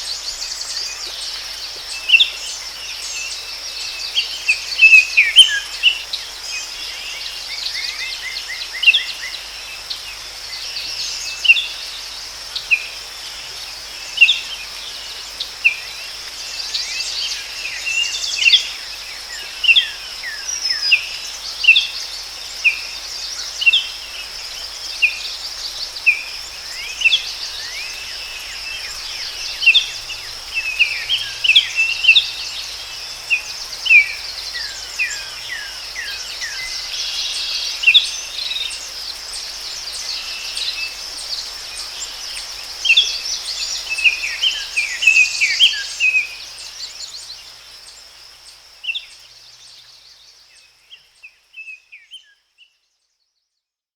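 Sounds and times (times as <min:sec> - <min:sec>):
high-pitched insect chorus: 0:00.0 - 0:52.8.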